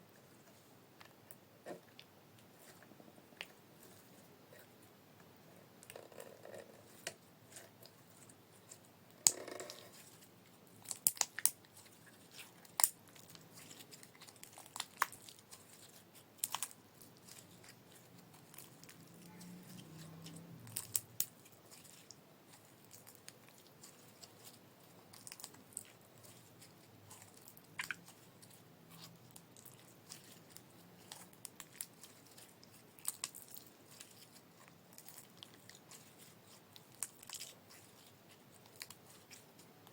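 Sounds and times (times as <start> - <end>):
slime crackling: 6.8 - 39.9.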